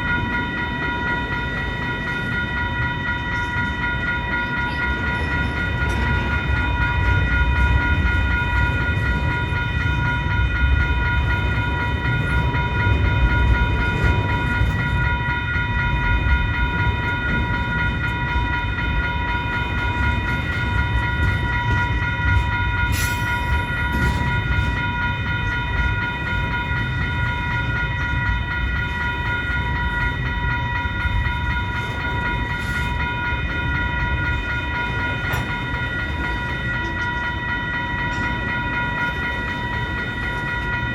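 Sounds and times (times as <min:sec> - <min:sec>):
freight train rumbling: 0:00.0 - 0:40.9.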